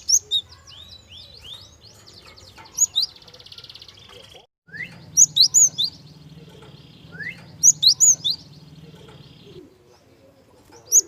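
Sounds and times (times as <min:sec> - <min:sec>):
bird chirping song: 0:00.0 - 0:11.0.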